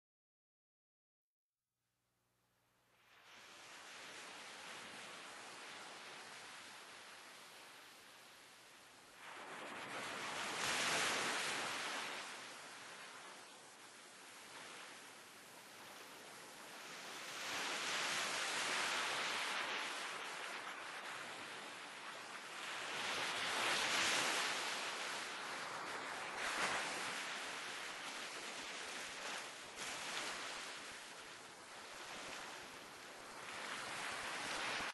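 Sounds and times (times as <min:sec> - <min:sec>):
waves washing in: 0:03.0 - 0:34.9.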